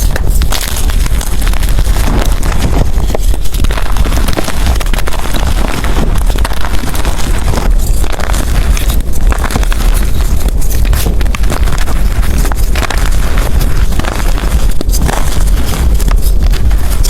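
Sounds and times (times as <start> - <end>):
chalk crunching by hand: 0.0 - 17.0
steady low rumble: 0.0 - 17.0.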